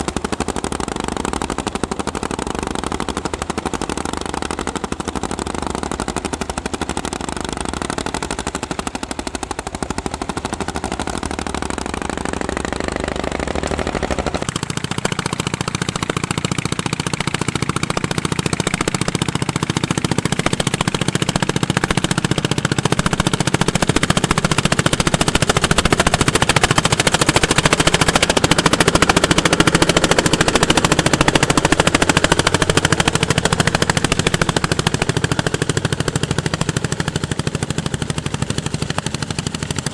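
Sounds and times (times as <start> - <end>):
tractor engine exhaust popping: 0.0 - 39.9.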